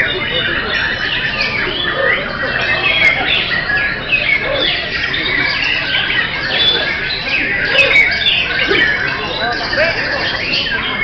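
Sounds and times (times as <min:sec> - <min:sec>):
chorus of birds singing: 0:00.0 - 0:11.0.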